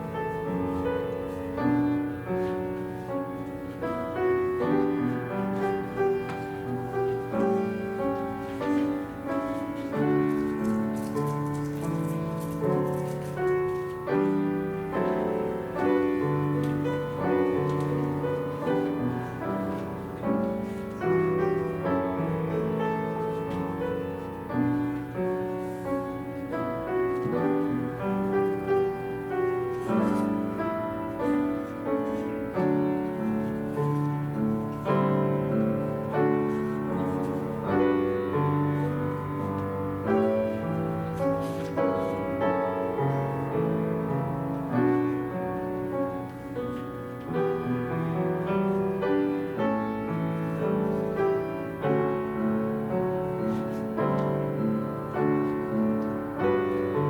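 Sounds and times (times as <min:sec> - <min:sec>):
slow piano piece: 0:00.0 - 0:57.0.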